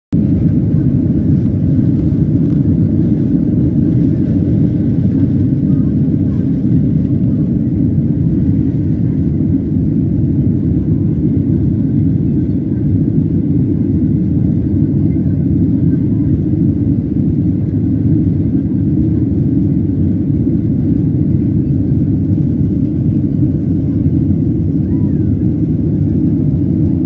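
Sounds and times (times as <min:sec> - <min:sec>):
jet engines roaring: 0:00.2 - 0:27.0.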